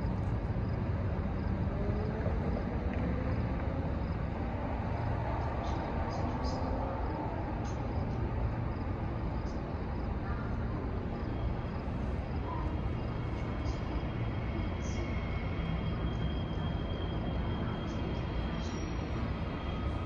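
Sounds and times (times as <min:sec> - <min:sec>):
faint high whine: 0:00.0 - 0:20.0
low rumble of city noise: 0:00.0 - 0:20.0.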